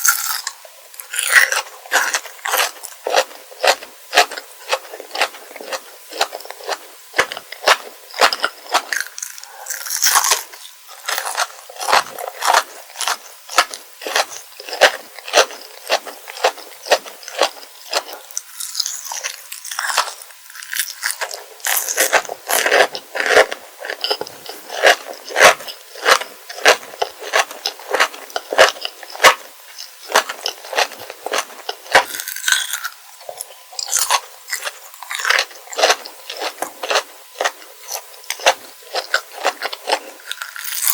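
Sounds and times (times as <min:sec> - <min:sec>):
crunching and chewing candy: 0:00.0 - 0:40.9.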